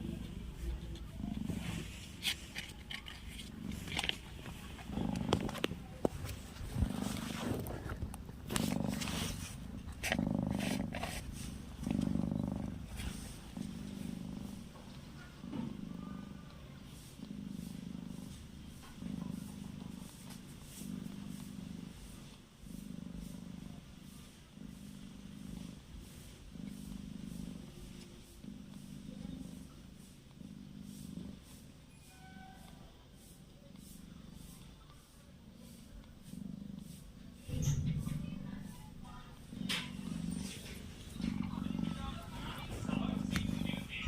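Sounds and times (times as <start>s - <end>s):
cat purring: 0.0s - 44.0s
rustles: 0.0s - 44.0s.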